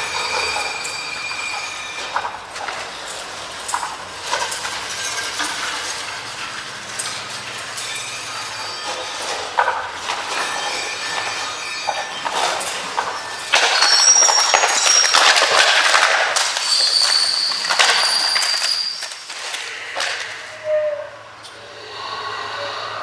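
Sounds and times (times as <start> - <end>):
high metallic squeals: 0.0 - 23.0
rusty pulleys and gears clattering: 0.0 - 23.0.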